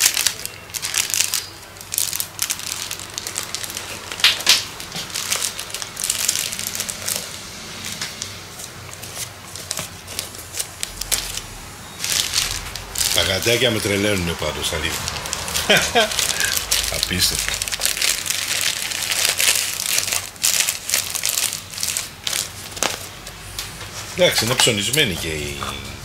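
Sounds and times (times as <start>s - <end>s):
plastic wrapping crinkling: 0.0s - 25.8s.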